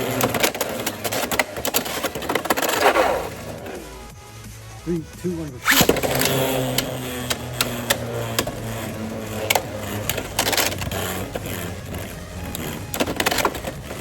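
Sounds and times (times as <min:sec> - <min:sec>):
spinning tops clashing: 0:00.0 - 0:03.8, 0:05.6 - 0:14.0
spinning tops whirring: 0:00.0 - 0:14.0.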